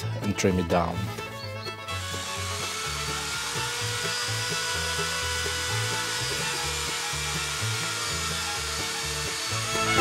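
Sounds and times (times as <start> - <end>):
background music with bass line: 0.0 - 10.0
drill press whining and cutting: 1.3 - 10.0.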